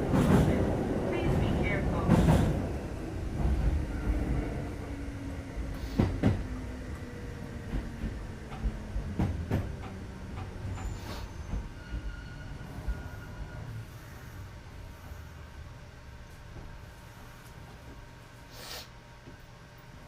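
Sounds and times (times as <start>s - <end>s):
train steady hum: 0.0s - 20.0s
train whine: 0.0s - 20.0s.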